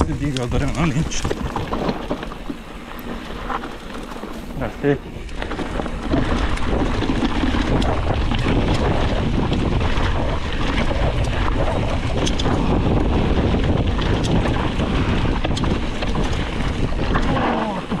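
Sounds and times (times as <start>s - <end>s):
bike rattling: 0.0s - 18.0s
wind rushing over microphone: 0.0s - 18.0s.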